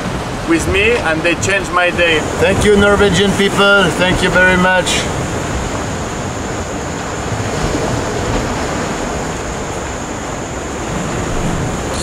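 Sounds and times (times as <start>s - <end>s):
surf breaking over rocks: 0.0s - 12.0s.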